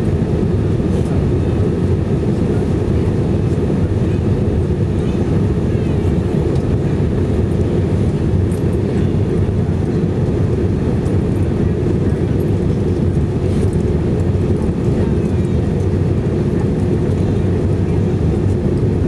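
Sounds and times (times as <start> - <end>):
airplane cabin drone: 0.0 - 19.0.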